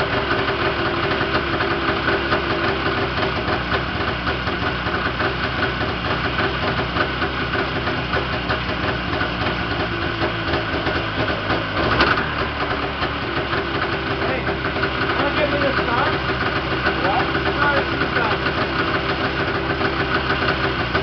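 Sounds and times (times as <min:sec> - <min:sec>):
snowmobile engine idling: 0:00.0 - 0:21.0.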